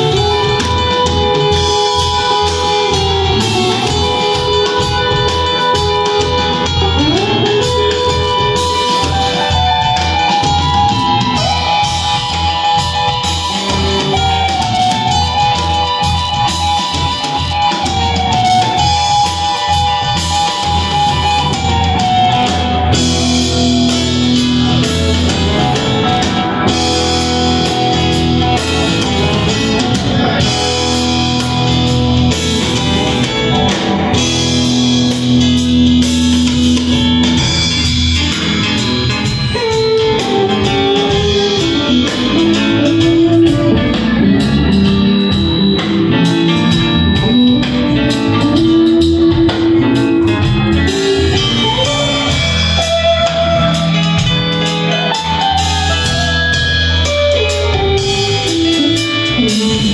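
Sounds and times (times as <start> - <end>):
electric guitar: 0.0 - 59.9
low bass: 0.0 - 59.9
organ: 0.0 - 59.9.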